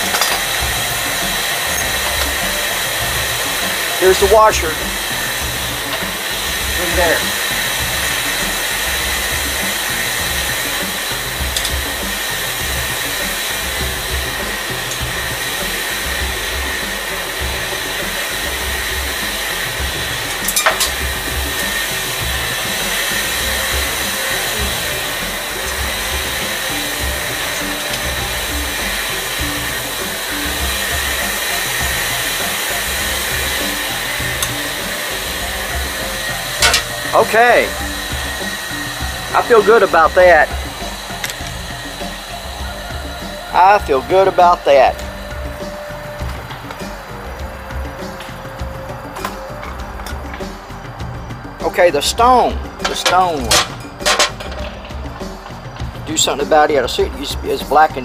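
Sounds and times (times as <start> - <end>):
whirring machine with low throb: 0.0 - 58.0.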